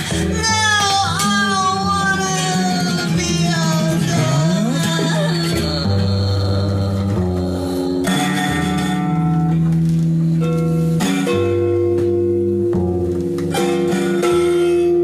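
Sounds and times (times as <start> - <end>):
low bass line: 0.0 - 15.0
ringing guitar notes: 0.0 - 15.0.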